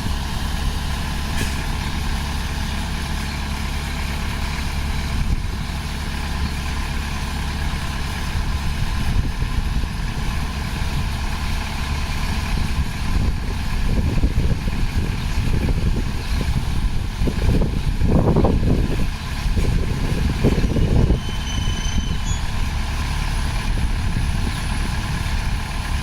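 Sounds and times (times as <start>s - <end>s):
diesel engine running: 0.0s - 26.0s
rough low rumble: 0.0s - 26.0s.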